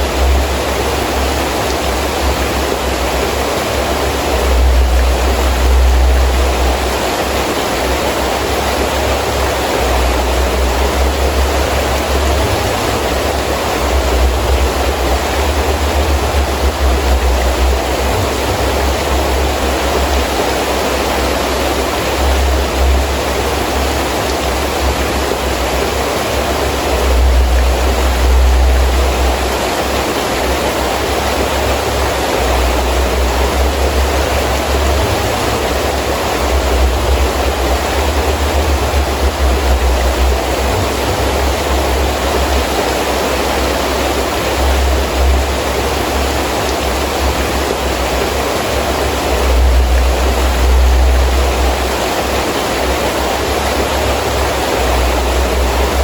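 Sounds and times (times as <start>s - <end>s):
gusting wind rumble: 0.0s - 56.0s
heavy rain falling: 0.0s - 56.0s.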